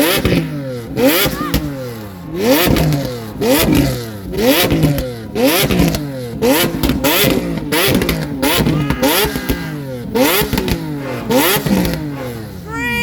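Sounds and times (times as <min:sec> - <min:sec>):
car engine revving: 0:00.0 - 0:12.7
exhaust crackle: 0:00.0 - 0:12.7.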